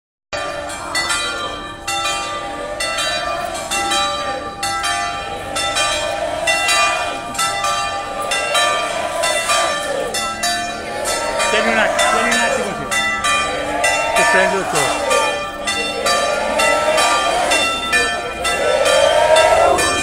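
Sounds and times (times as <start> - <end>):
church bells ringing: 0.4 - 20.0
crowd shouting: 0.4 - 20.0.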